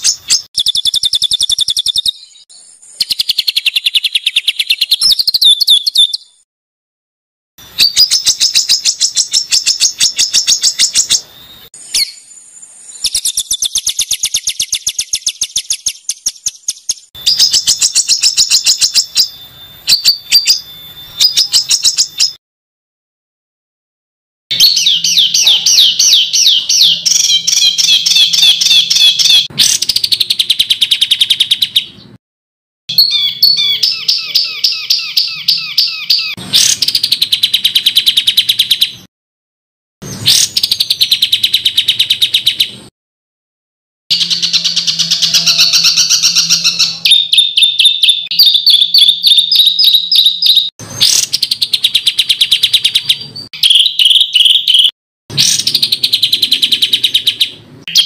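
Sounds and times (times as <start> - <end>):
harsh songbird calls and trills: 0.0 - 6.4, 7.6 - 22.4, 24.5 - 32.2, 32.9 - 39.1, 40.0 - 42.9, 44.1 - 58.0.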